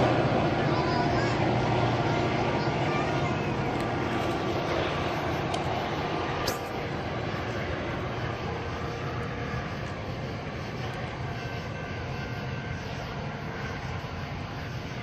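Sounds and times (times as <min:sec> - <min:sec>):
distant train rumbling: 0:00.0 - 0:15.0.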